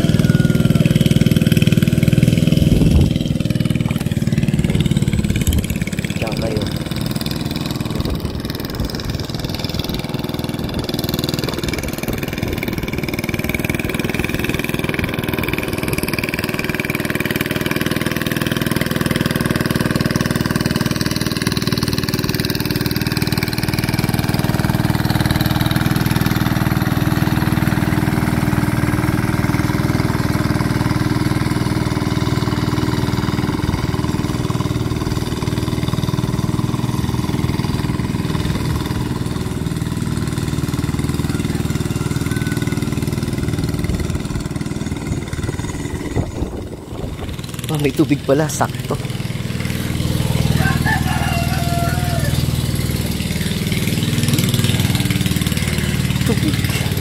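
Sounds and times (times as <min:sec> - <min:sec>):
hand tractor engine running: 0:00.0 - 0:57.0.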